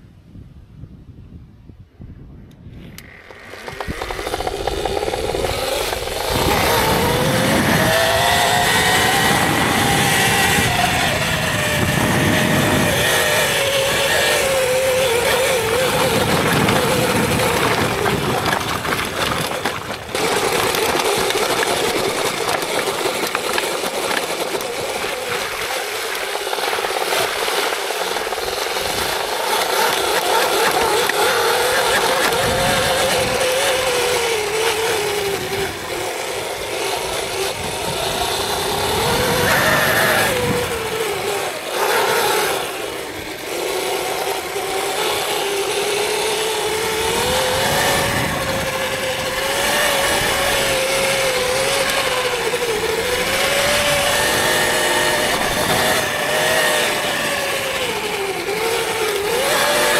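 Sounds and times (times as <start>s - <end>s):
electric motor whining: 2.6s - 59.9s
rushing ride noise: 2.8s - 59.9s.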